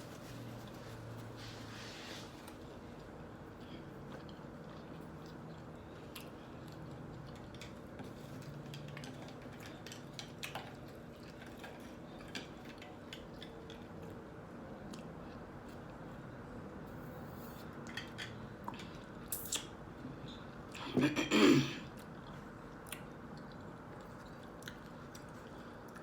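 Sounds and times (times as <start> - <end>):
close chewing and mouth sounds: 0.0 - 20.9, 21.8 - 26.0.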